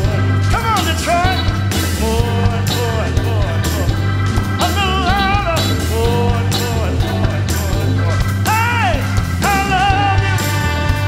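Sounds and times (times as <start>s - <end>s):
live soul band playing: 0.0s - 11.0s
male lead vocal: 0.0s - 11.0s.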